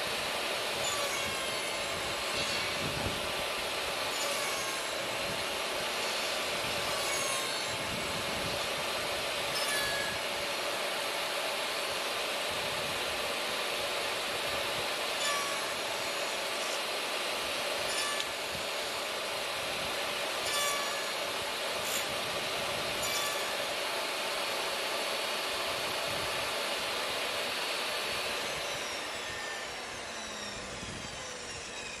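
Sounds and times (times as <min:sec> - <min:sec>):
table saw running: 0:00.0 - 0:32.0.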